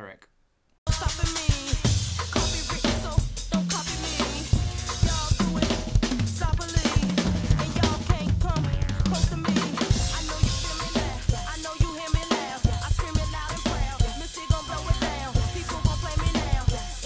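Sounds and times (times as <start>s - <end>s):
drum kit fills: 0.9s - 17.0s.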